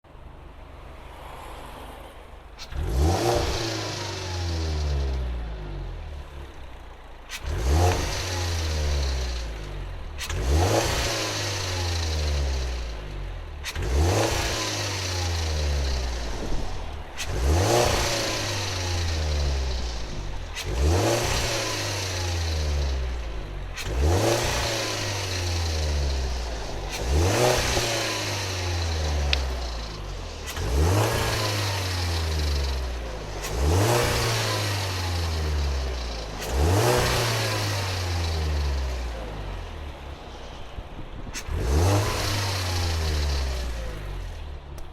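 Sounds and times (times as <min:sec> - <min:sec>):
car engine revving: 0:02.6 - 0:40.8, 0:41.4 - 0:44.9.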